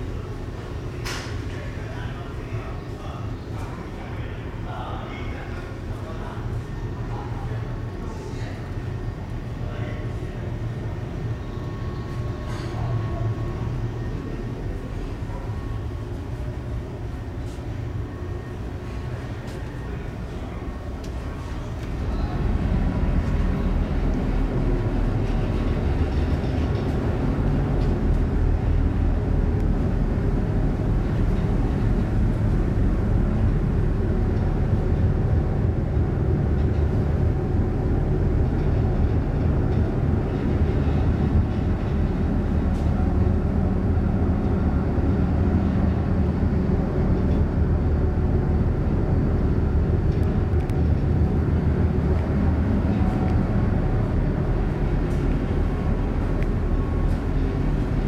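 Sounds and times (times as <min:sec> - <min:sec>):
ship engines droning: 0:00.0 - 0:58.0.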